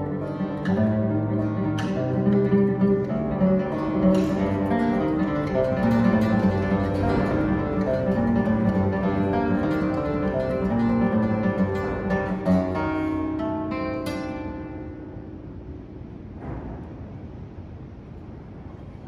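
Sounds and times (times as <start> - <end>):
classical guitar fingerstyle: 0.0 - 16.0.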